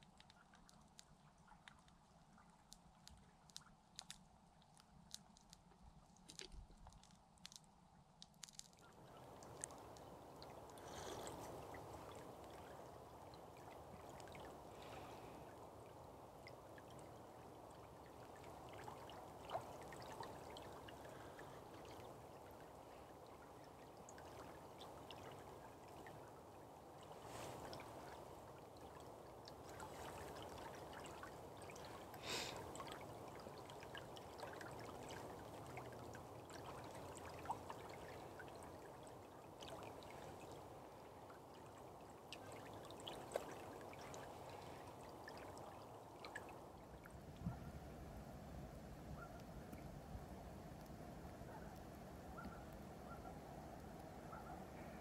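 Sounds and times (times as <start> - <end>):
running water of small river: 0.0 - 55.0.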